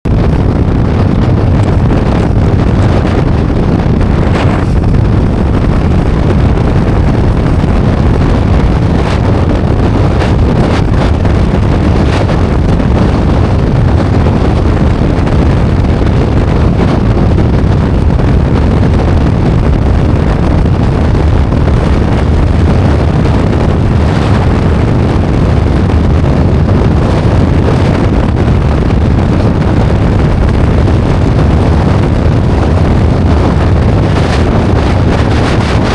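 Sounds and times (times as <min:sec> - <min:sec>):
motorcycle engine running: 0:00.0 - 0:35.9
wind rumbling on microphone: 0:00.0 - 0:35.9.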